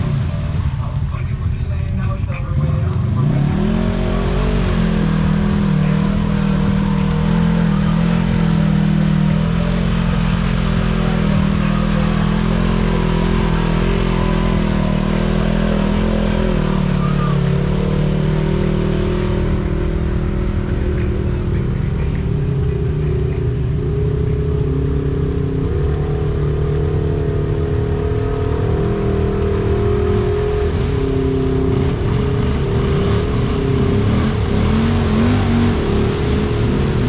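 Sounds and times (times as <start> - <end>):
utility vehicle engine running: 0.0 - 37.0.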